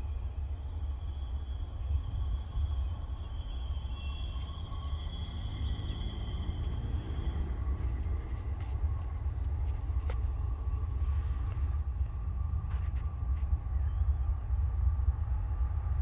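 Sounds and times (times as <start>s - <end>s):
faint high-pitched ringing tones: 0.0s - 16.0s
freight train rumble: 0.0s - 16.0s.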